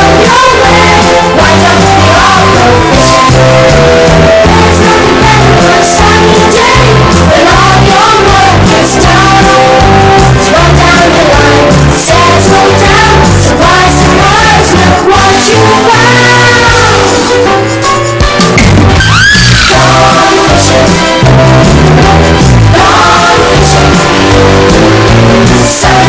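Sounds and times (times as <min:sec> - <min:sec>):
distorted pop-rock song with singing: 0:00.0 - 0:26.0.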